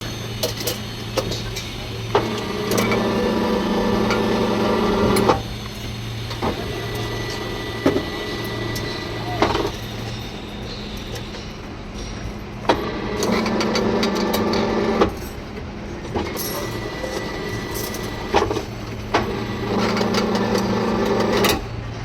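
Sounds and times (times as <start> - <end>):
bending machine motor hum: 0.0 - 22.0.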